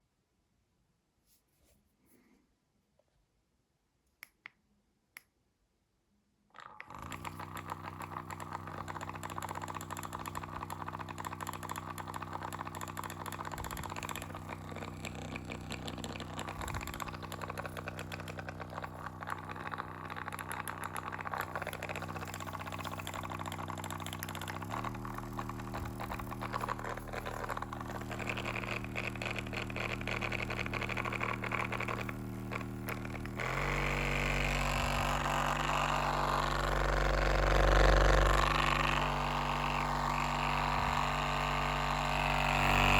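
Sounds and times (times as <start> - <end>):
motor hum: 6.6 - 42.9
fast rattling: 6.9 - 42.9.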